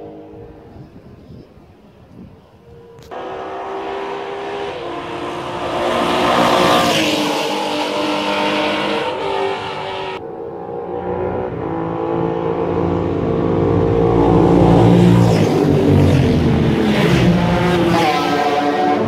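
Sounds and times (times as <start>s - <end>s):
racing motorcycle passing: 2.8s - 19.0s.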